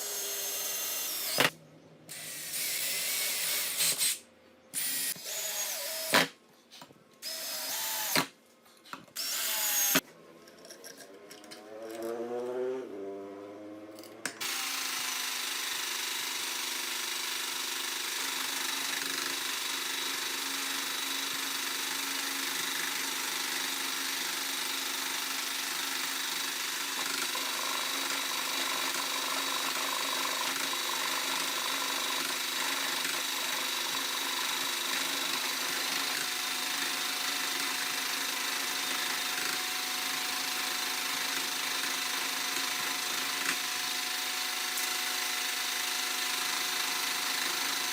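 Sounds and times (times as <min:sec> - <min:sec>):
electric drill motor running: 0:00.0 - 0:04.2, 0:04.8 - 0:06.3, 0:07.2 - 0:08.3, 0:09.2 - 0:10.0, 0:14.4 - 0:47.9.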